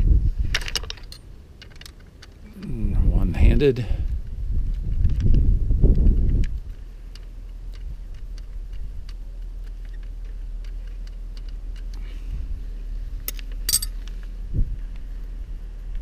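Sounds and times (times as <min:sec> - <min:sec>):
steady low rumble: 0:00.0 - 0:16.0
light clicks of plastic parts: 0:00.4 - 0:03.0, 0:03.6 - 0:16.0.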